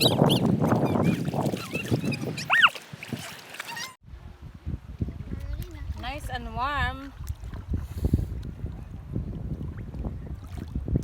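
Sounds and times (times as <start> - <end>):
wind buffeting microphone: 0.0 - 3.4, 4.0 - 11.0.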